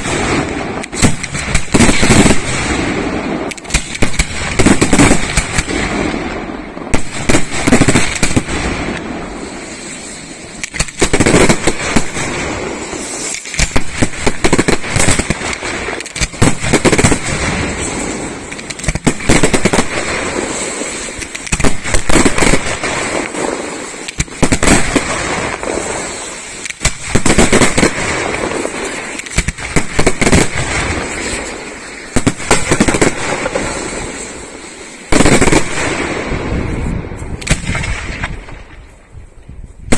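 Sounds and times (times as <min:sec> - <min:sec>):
fireworks bursting with sharp bangs: 0:00.0 - 0:39.9.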